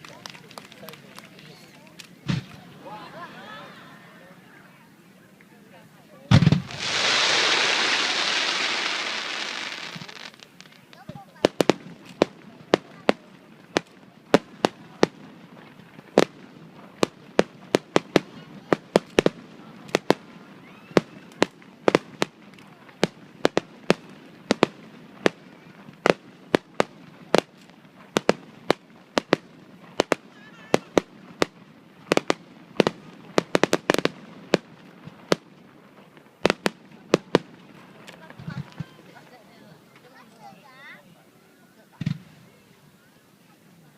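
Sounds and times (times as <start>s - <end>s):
fireworks bursting bangs: 0.0s - 3.0s, 6.3s - 40.7s, 41.9s - 42.9s.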